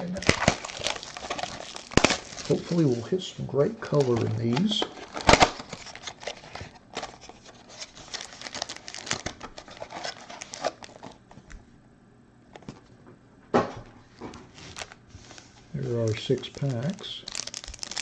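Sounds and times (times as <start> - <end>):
foil packs crinkling and rustling: 0.0 - 11.3, 14.2 - 18.0.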